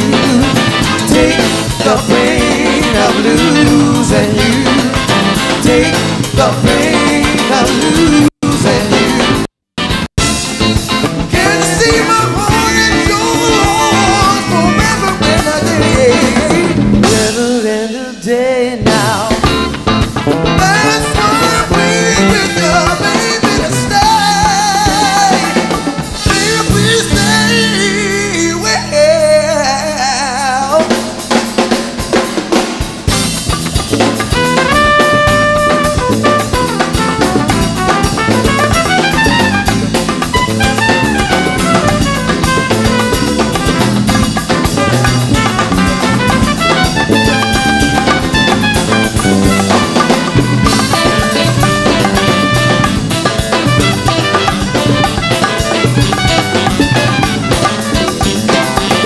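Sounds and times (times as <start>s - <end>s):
drum kit beat: 0.0s - 28.8s, 30.5s - 59.0s
live band playing instrumental: 0.0s - 59.0s.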